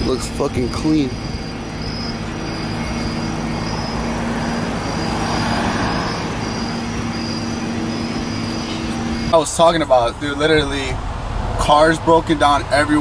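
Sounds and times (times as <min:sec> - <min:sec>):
car engine hum: 0:00.0 - 0:13.0
road noise: 0:00.0 - 0:13.0
vehicle passing by: 0:00.0 - 0:13.0.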